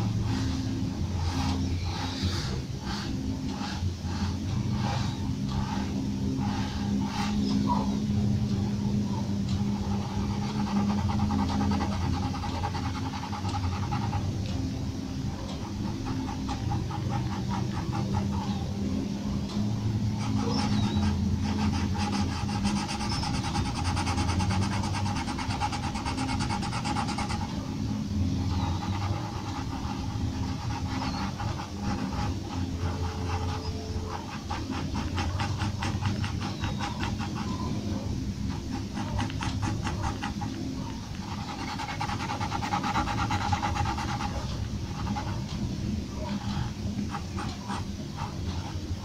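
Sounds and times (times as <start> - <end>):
pencil scratching on paper: 0.0 - 7.7, 9.3 - 14.7, 15.3 - 18.6, 20.0 - 45.6, 46.2 - 49.0
low background hum: 0.0 - 49.0.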